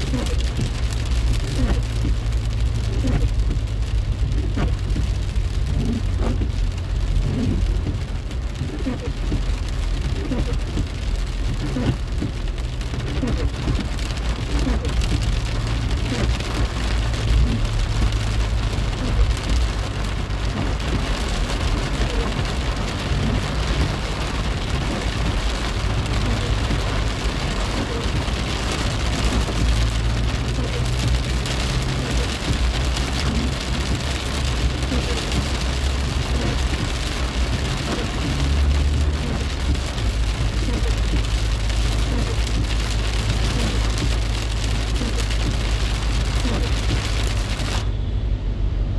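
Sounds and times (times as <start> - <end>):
heavy rain on car windscreen: 0.0 - 47.9
low rumble of car moving: 0.0 - 48.9.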